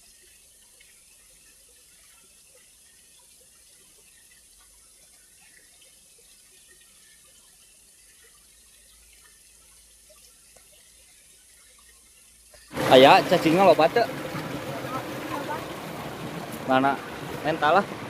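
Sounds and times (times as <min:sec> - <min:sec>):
faint trickling water: 0:00.0 - 0:18.0
water drips and gurgles: 0:00.0 - 0:18.0.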